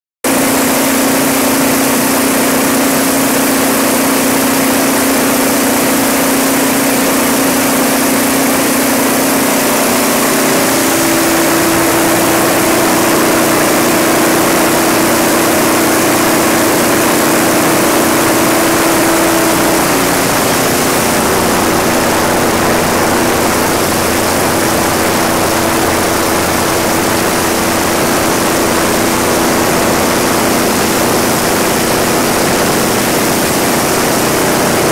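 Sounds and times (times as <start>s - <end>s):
diesel generator engine running: 0.3s - 34.9s.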